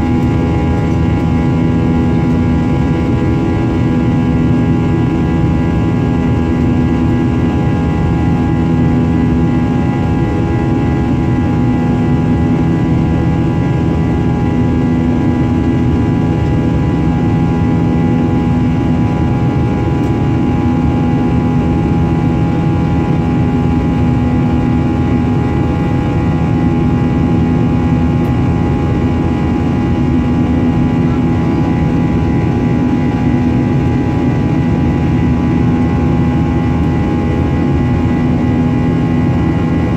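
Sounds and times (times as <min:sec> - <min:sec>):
jet engine drone: 0:00.0 - 0:39.9.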